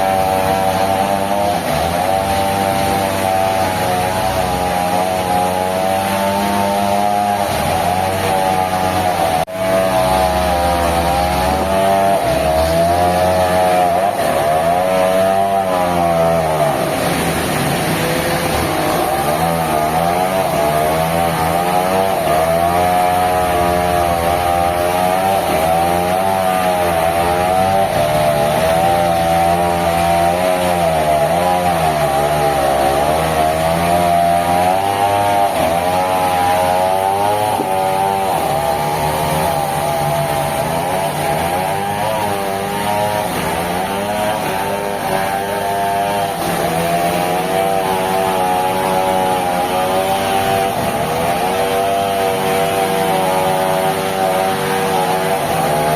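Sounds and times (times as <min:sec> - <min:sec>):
engine-driven sawmill saw running: 0:00.0 - 0:55.9.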